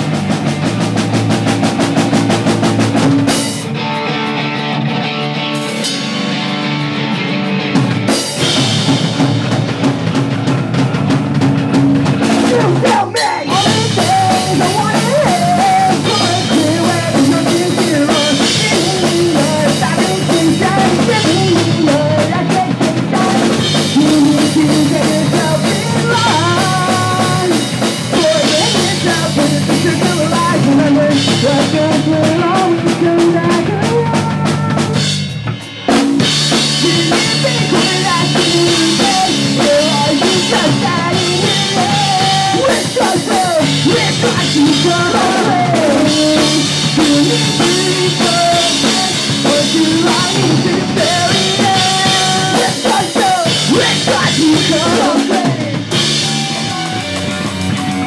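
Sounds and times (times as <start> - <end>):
driving drum kit: 0.0 - 58.0
pop punk band playing live: 0.0 - 58.0.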